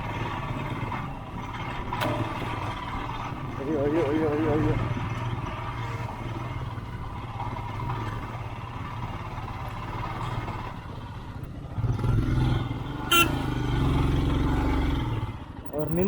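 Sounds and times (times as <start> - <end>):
motorcycle engine at low speed: 0.0 - 16.0.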